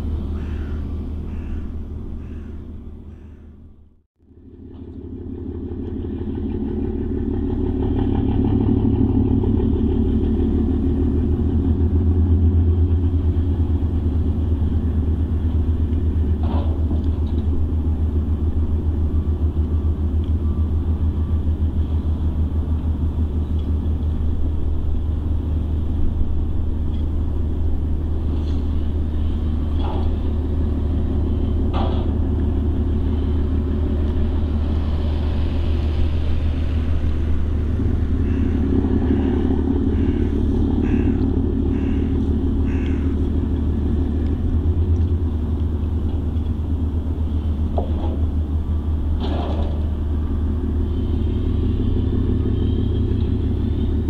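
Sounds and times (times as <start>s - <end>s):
ship engine deep rumble: 0.0s - 54.0s.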